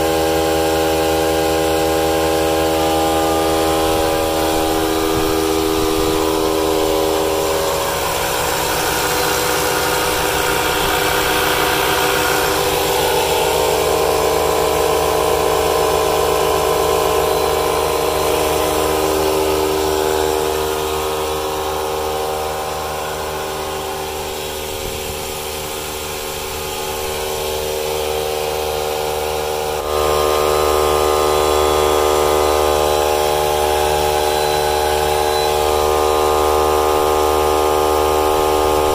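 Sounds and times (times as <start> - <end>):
drone of pump motors: 0.0 - 38.9.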